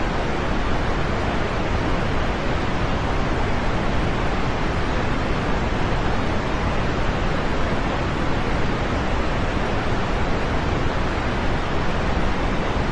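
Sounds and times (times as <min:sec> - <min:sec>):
steady rain: 0:00.0 - 0:12.9.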